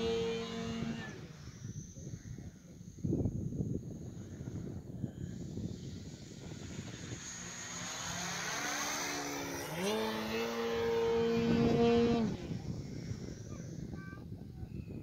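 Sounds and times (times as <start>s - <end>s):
model plane motor whining: 0.0s - 14.3s.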